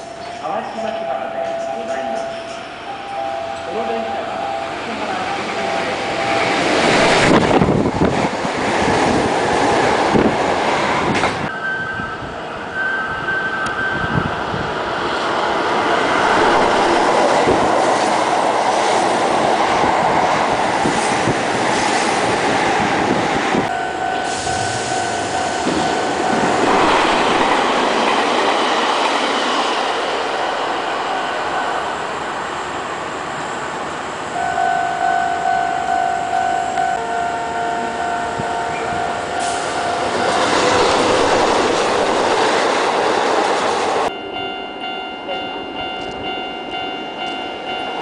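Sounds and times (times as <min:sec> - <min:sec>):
train running on rails: 0:00.0 - 0:48.0.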